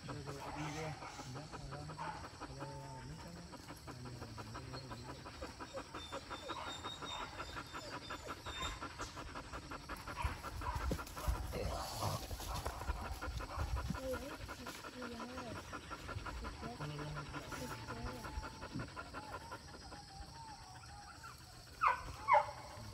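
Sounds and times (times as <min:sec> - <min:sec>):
dog panting fast: 0:00.0 - 0:22.9.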